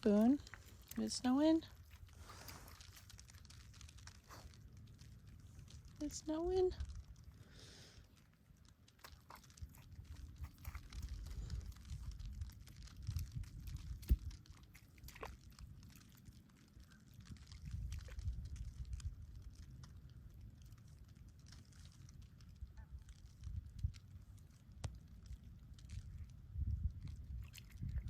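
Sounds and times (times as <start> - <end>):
crunching in wet snow: 0.0 - 28.0.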